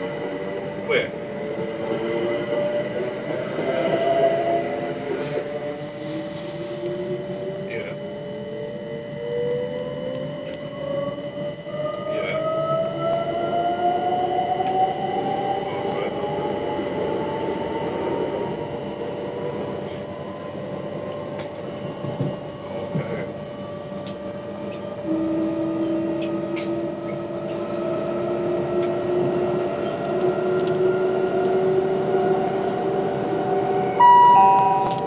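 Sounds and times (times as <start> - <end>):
electric train motors whining: 0.0 - 35.0
wheels rumbling on rails: 0.0 - 35.0.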